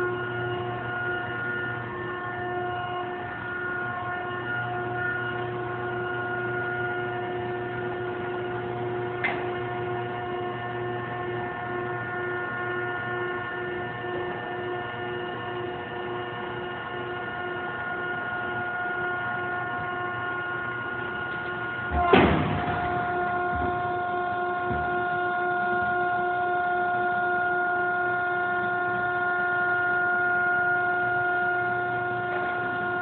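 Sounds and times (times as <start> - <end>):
baler motor humming: 0.0 - 33.0.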